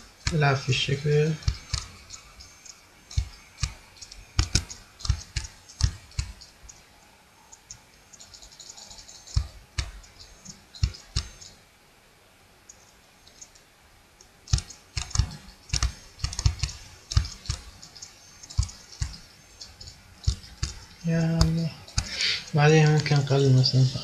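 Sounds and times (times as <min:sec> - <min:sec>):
mouse and keyboard clicks: 0:00.2 - 0:06.8, 0:07.5 - 0:11.6, 0:14.4 - 0:23.4.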